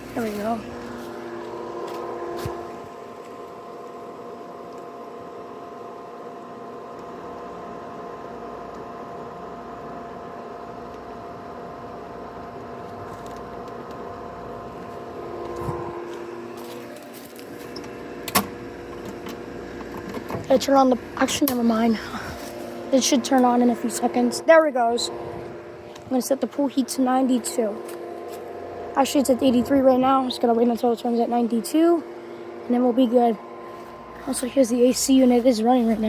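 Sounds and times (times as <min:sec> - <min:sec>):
pool pump motor humming: 0:00.0 - 0:36.0.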